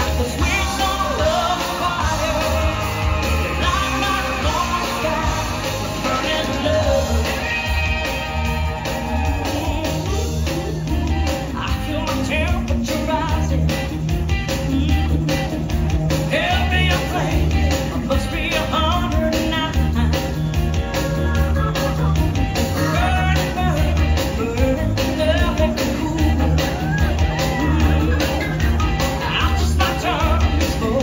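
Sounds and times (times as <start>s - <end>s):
pop-rock song over speakers: 0.0s - 31.0s.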